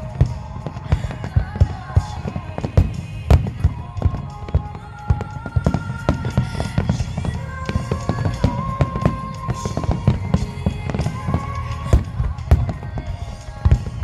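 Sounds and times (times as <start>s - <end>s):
fireworks bursting: 0.0s - 14.0s
fireworks crackling: 0.0s - 14.0s
music with held melody: 0.0s - 14.0s.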